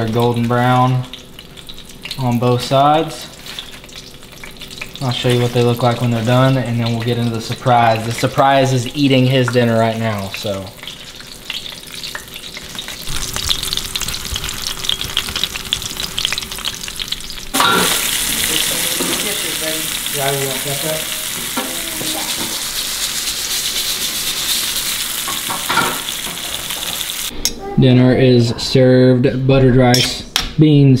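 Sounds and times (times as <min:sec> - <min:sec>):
fish frying in oil: 0:00.0 - 0:27.3.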